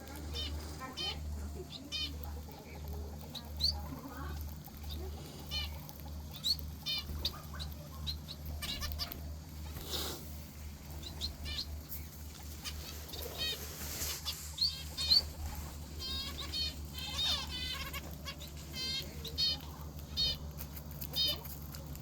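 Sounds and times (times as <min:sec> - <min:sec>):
steady low hum: 0:00.0 - 0:22.0
finch chirping: 0:00.1 - 0:10.2, 0:10.8 - 0:22.0.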